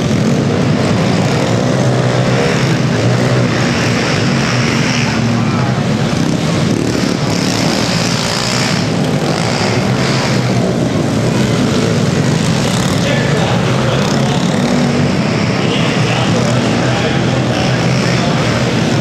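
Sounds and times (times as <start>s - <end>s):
pit bike engines racing: 0.0s - 19.0s.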